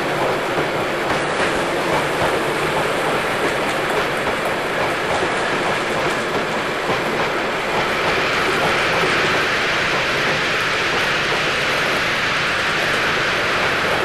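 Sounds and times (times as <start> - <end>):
model train whirring on track: 0.0 - 14.0.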